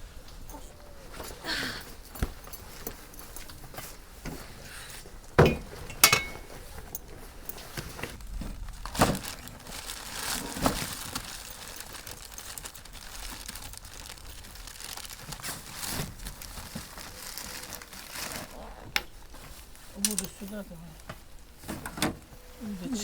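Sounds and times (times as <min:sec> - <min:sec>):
crinkling rustle of packing: 0:00.0 - 0:23.0.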